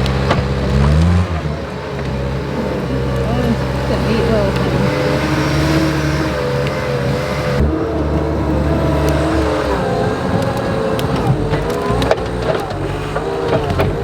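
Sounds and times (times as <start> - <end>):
tractor engine under load: 0.0 - 14.0.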